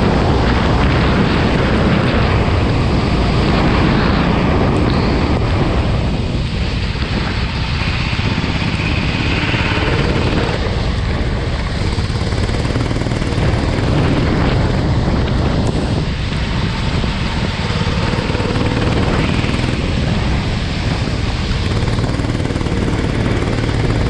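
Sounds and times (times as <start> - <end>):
go-kart engine running: 0.0 - 24.0
wind noise on microphone: 0.0 - 24.0.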